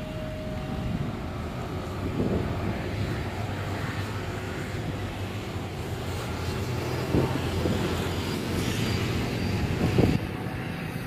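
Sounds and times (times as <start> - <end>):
cars and scooters passing: 0.0 - 11.0.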